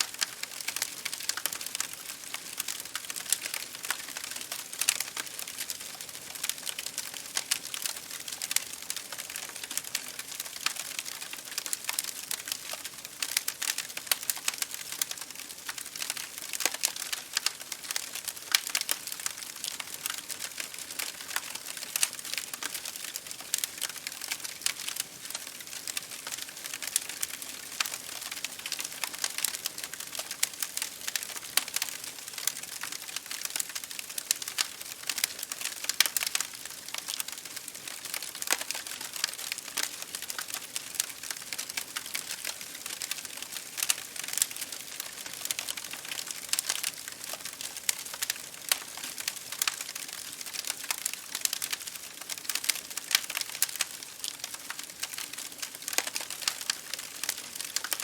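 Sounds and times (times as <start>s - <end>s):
rain pattering on window: 0.0s - 58.0s
wood fire crackling: 0.0s - 58.0s.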